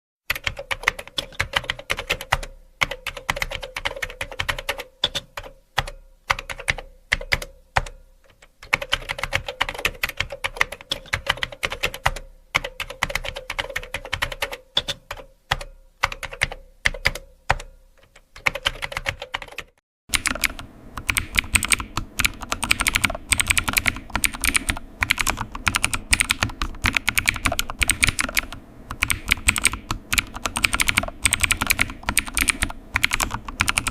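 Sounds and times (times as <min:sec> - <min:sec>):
typing on computer keyboard: 0:00.3 - 0:33.9.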